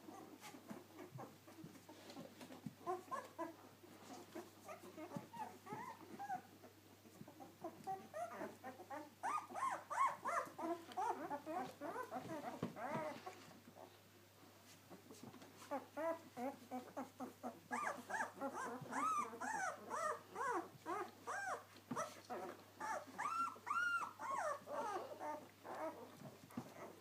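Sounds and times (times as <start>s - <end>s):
puppies whimpering and squeaking: 0.0s - 13.9s, 14.9s - 27.0s.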